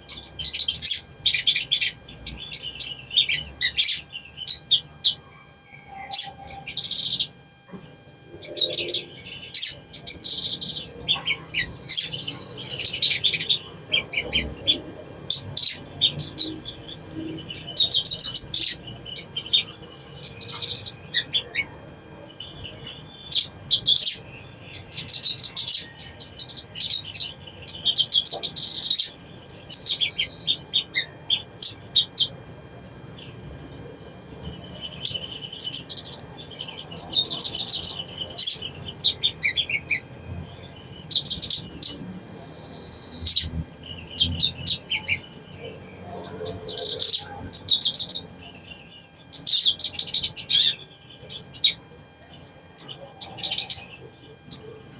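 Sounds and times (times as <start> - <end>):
bird twittering and chirping: 0.0 - 54.9.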